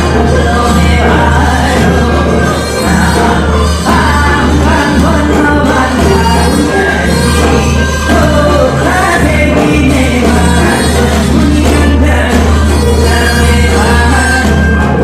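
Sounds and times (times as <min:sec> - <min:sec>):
steady bass line: 0:00.0 - 0:15.0
zither ensemble with singing: 0:00.0 - 0:15.0.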